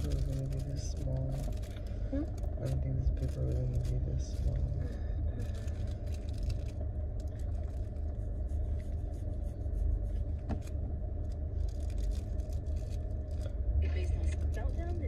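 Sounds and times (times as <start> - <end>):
rolling paper crinkling: 0.0 - 13.5
car running heard from inside: 0.0 - 15.0.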